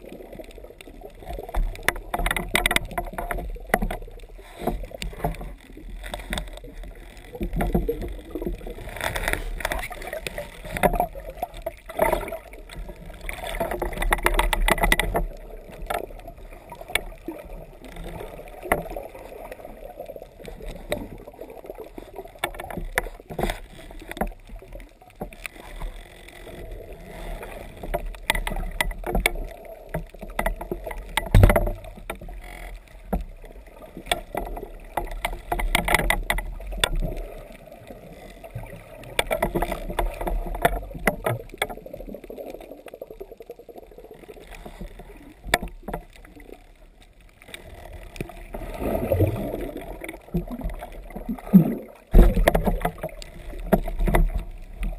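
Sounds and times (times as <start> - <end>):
small clicks and knocks: 0.4 - 19.6, 21.9 - 37.3, 38.5 - 43.0, 44.2 - 48.6, 50.0 - 54.9.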